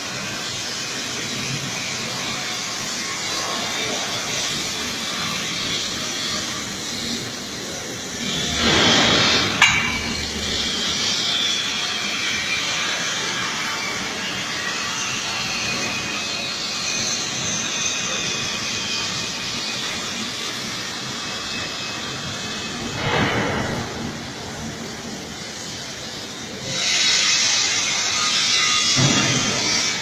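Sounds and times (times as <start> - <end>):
cutting torch hissing: 0.0 - 30.0.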